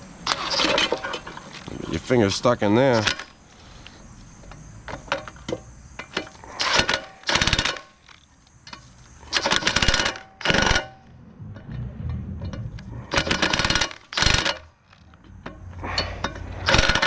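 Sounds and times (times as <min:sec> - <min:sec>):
power wrench rattling: 0:00.2 - 0:01.7, 0:02.4 - 0:03.4, 0:04.4 - 0:11.7, 0:12.4 - 0:17.0.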